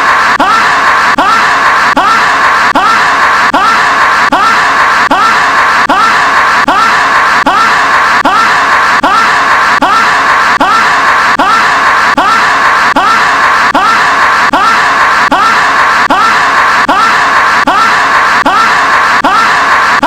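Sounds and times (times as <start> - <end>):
distorted scream-like noise loop: 0.0 - 20.0.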